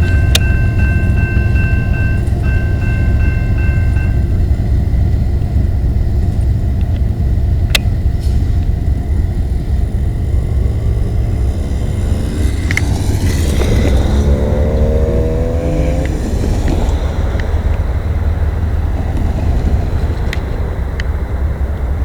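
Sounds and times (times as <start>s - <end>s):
diesel locomotives rumbling: 0.0s - 22.0s.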